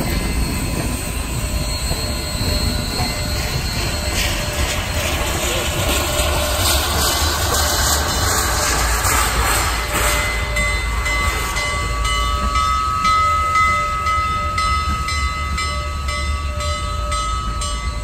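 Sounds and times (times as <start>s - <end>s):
steam locomotive hiss: 0.0s - 17.9s
steam locomotive wheels rumbling: 0.0s - 18.0s.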